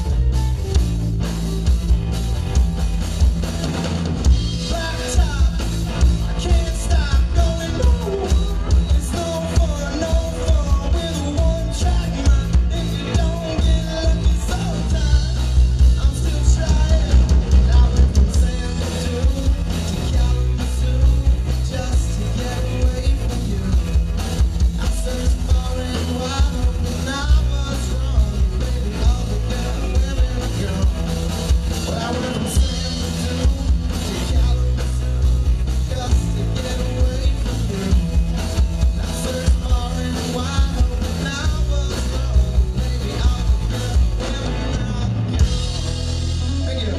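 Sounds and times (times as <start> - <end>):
drum kit: 0.0 - 46.9
electric guitars: 0.0 - 46.9
person singing lead vocal: 4.3 - 46.9.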